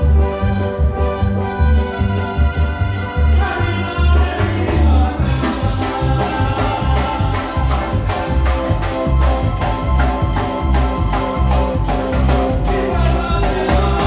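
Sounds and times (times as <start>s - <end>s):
drums: 0.0s - 14.0s
electric guitars: 0.0s - 14.0s
electric keyboard organ chords: 0.0s - 14.0s
heavy bass beat: 0.0s - 14.0s.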